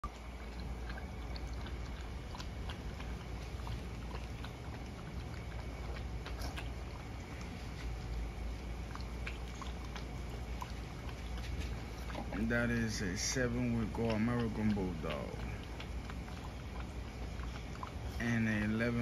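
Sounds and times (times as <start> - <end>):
low background rumble: 0.0 - 19.0
puppies eating from plastic bowls: 0.0 - 19.0.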